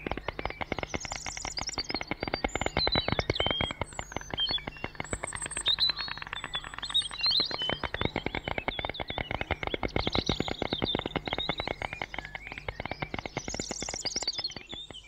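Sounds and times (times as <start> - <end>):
storks clattering bills: 0.0 - 14.7
small birds chirping: 0.0 - 15.0.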